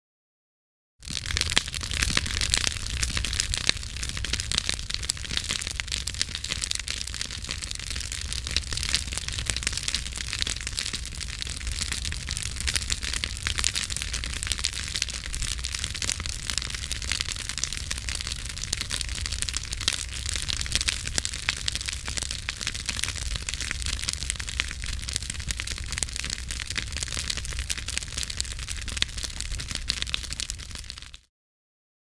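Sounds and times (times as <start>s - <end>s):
campfire wood crackling: 1.0s - 31.2s.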